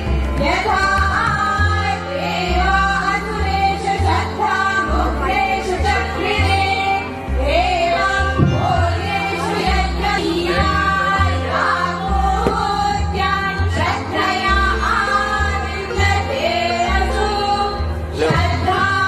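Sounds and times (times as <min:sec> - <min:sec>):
devotional singing over deep bass: 0:00.0 - 0:19.0.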